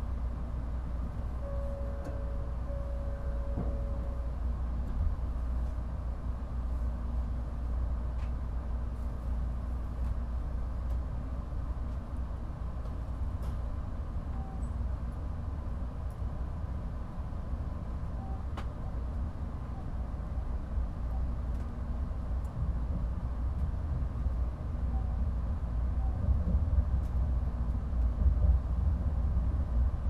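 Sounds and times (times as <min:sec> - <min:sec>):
train humming at platform: 0:00.0 - 0:30.0.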